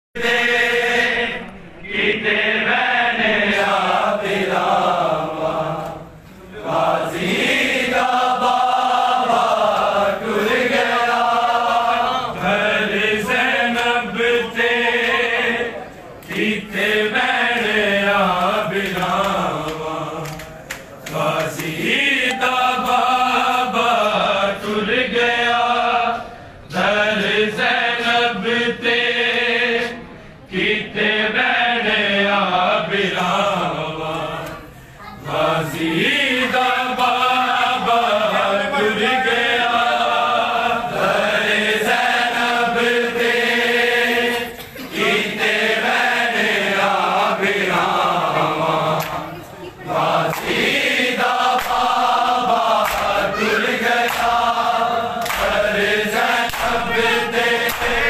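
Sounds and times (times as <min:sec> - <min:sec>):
male voices chanting a lament: 0:00.2 - 0:58.0.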